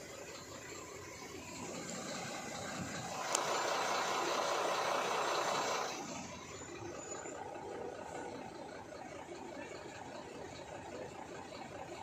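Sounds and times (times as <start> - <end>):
road and engine noise in truck cab: 0.0 - 12.0.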